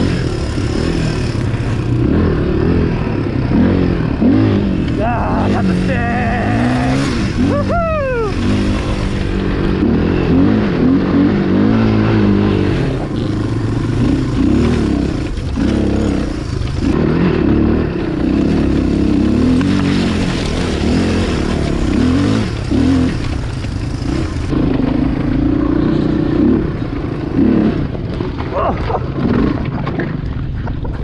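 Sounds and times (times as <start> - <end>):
motorcycle engine revving: 0.0 - 30.8.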